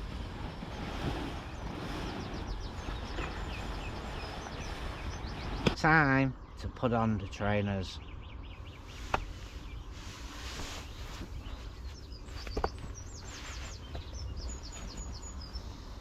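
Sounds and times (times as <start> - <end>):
songbird chirping: 0.0 - 16.0
steady low rumble: 0.0 - 16.0.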